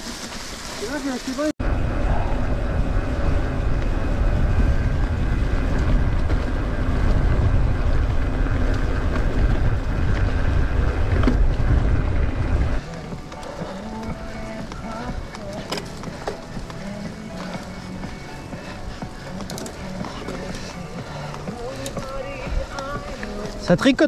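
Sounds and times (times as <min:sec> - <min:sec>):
wind buffeting microphone: 0:01.6 - 0:23.7.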